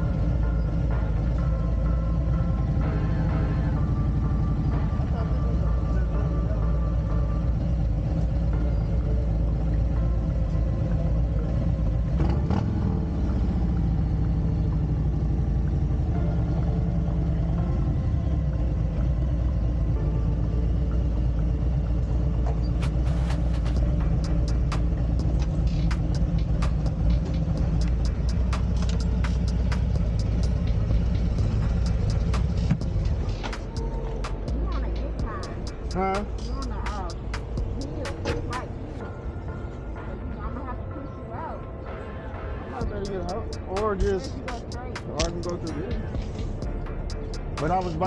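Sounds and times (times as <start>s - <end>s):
motorcycle engine running: 0.0s - 38.8s, 42.8s - 48.0s.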